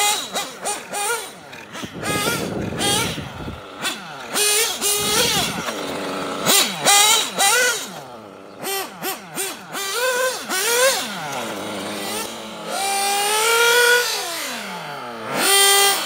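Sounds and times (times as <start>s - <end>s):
nitro engine revving: 0.0s - 16.0s.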